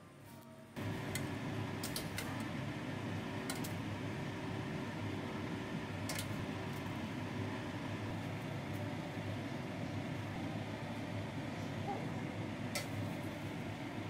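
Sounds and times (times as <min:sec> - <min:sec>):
machine hum: 0:00.6 - 0:14.0.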